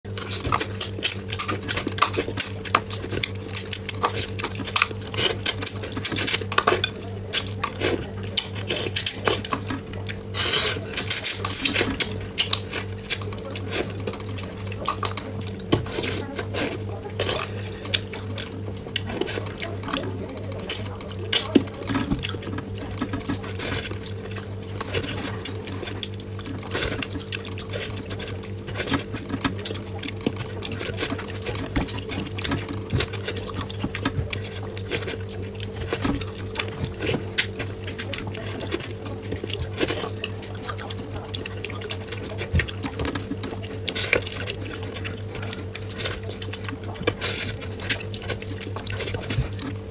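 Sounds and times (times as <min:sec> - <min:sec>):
steady low hum: 0:00.0 - 0:49.9
wet chewing and sucking: 0:00.1 - 0:49.9.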